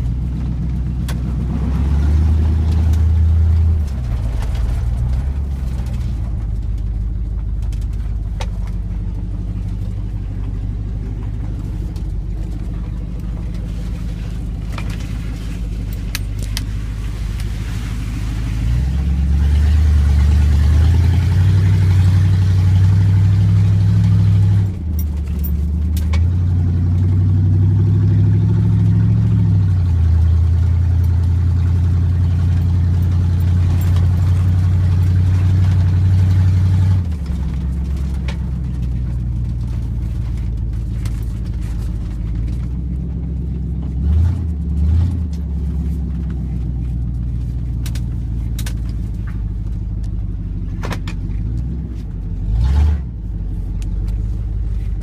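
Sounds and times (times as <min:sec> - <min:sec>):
truck engine from inside cab: 0:00.0 - 0:55.0.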